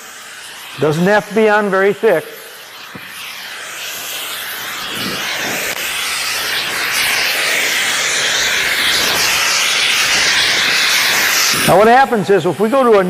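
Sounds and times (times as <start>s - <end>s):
gas torch flame hissing: 0.0s - 13.0s.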